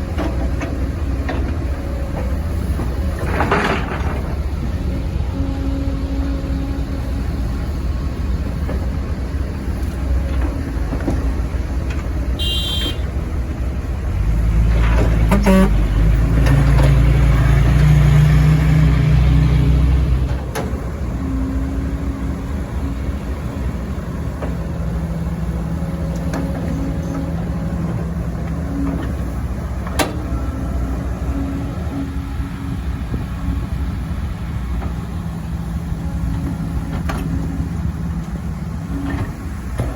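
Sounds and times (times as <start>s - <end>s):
diesel excavator engine: 0.0s - 39.9s.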